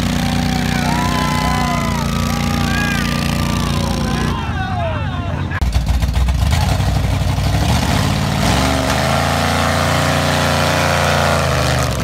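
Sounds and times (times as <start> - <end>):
tires spinning in mud: 0.0 - 5.0, 5.6 - 12.0
truck engines at full throttle: 0.0 - 12.0.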